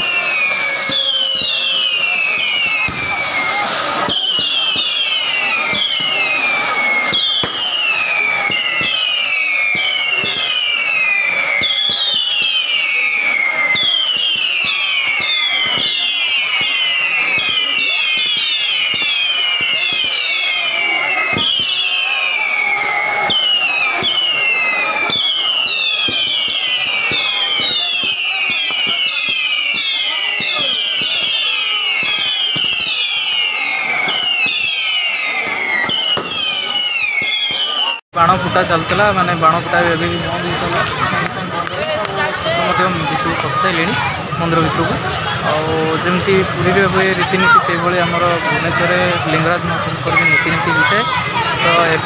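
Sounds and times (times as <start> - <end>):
firework pops and crackles: 0.0 - 52.0
whistling firework rockets: 0.0 - 52.0.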